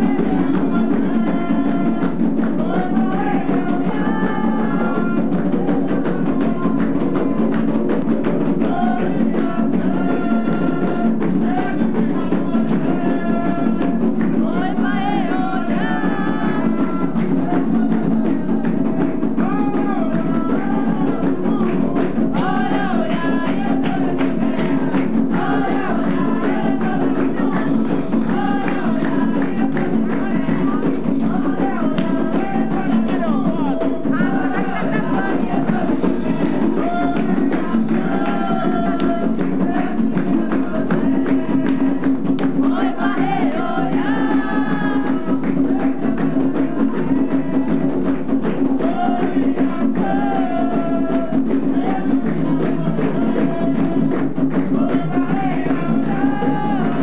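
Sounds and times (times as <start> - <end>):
hand drumming and percussion: 0.0 - 57.0
voices singing a chant: 0.0 - 57.0.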